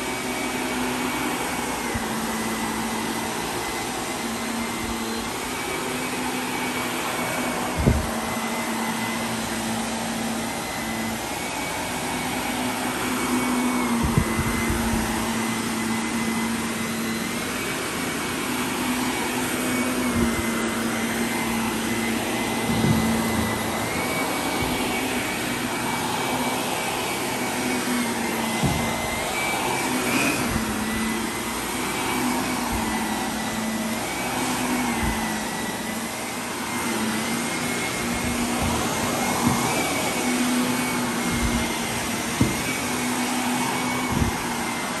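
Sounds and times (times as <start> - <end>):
vacuum cleaner on carpet: 0.0 - 45.0.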